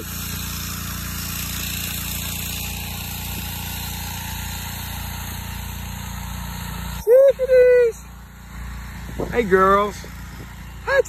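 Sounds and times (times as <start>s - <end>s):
engine-like hum: 0.0s - 11.0s
water spraying from hose nozzle: 0.0s - 11.0s.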